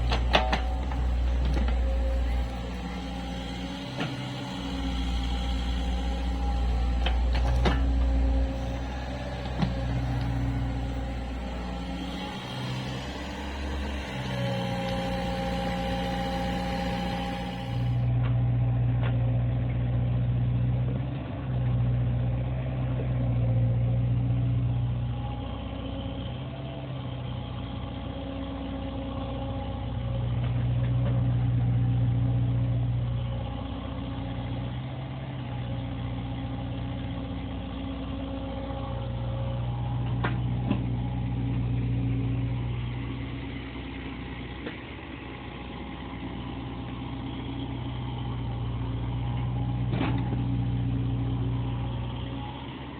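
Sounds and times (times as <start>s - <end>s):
excavator diesel engine working: 0.0s - 52.9s.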